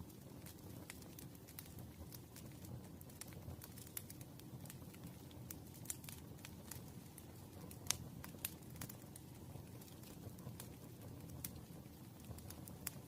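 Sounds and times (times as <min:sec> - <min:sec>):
burning wood popping and snapping: 0:00.0 - 0:13.0
flames rushing: 0:00.0 - 0:13.0.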